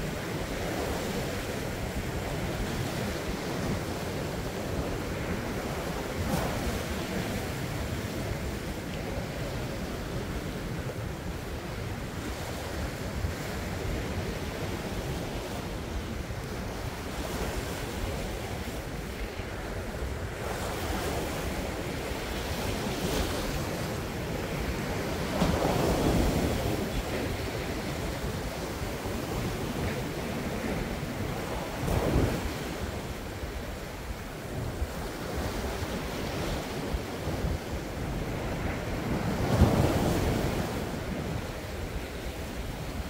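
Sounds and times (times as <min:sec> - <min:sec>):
sea waves breaking on rocks: 0:00.0 - 0:43.0
wind buffeting the microphone: 0:00.0 - 0:43.0.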